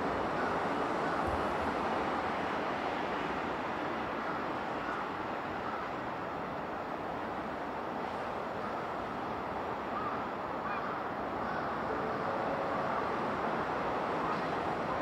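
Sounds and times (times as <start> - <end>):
electric train rumbling on rails: 0.0 - 15.0.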